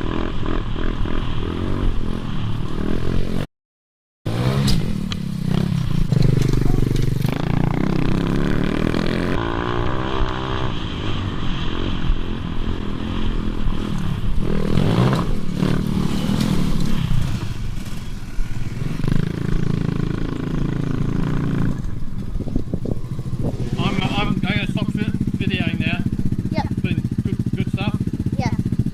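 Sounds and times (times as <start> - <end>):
motorbike engine revving: 0.0 - 3.4, 4.3 - 28.9.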